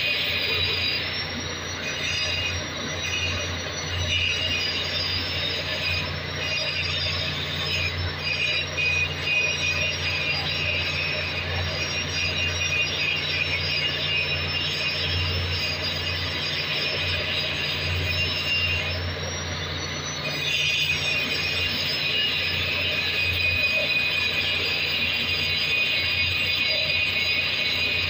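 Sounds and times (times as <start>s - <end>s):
grinder screeching on metal: 0.0s - 28.0s.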